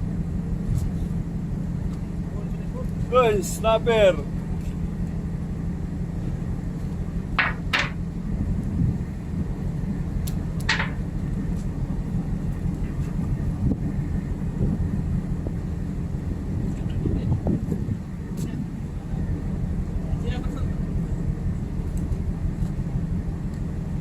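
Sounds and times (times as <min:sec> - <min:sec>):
ship machinery hum: 0:00.0 - 0:24.0.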